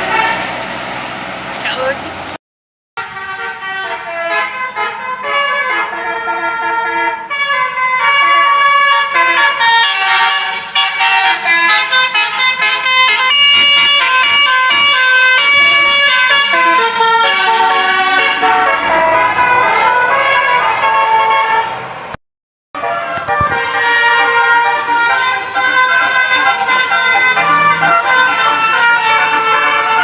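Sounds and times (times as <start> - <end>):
bus musical air horn tune: 0.0 - 0.5, 3.0 - 21.8, 22.8 - 30.0.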